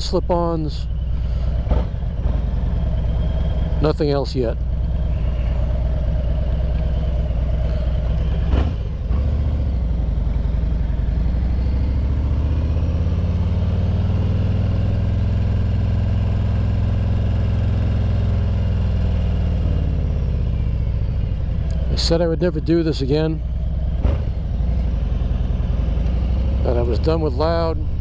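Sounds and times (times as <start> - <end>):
motorcycle engine on the road: 0.0 - 28.0.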